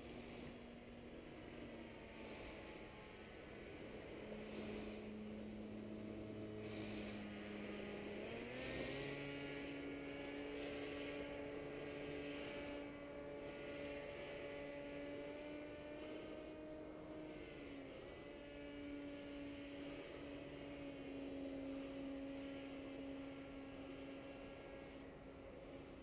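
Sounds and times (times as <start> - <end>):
distant paramotor engine droning: 0.0 - 26.0.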